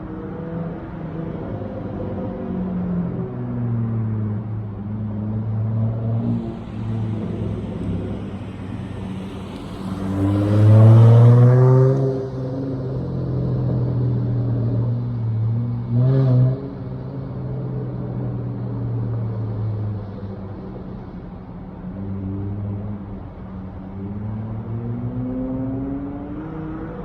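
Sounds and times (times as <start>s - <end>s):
car engine droning and revving: 0.0s - 27.0s.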